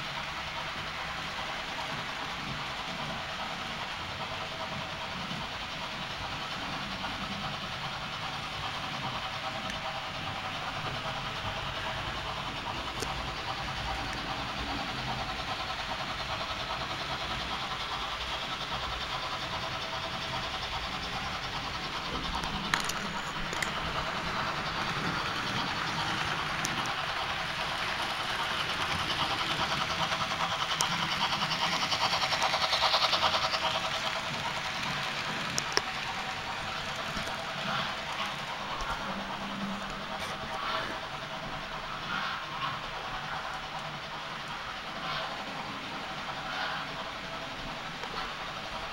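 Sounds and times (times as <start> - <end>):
model train motor hum: 0.0 - 48.9
wheel-on-rail rumble: 0.0 - 48.9.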